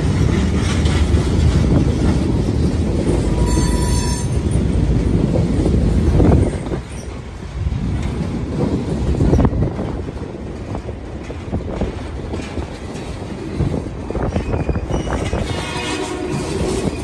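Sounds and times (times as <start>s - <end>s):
wheel-on-rail rumble: 0.0s - 17.0s.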